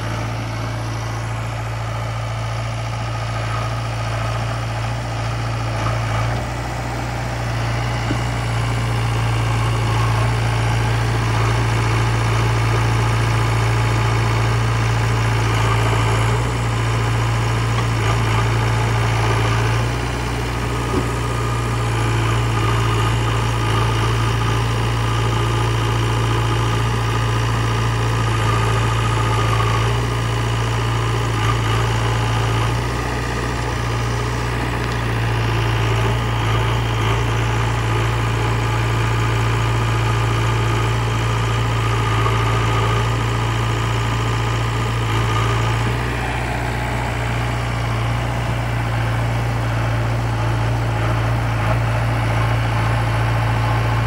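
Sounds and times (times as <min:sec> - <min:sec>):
diesel engines idling: 0:00.0 - 0:54.0.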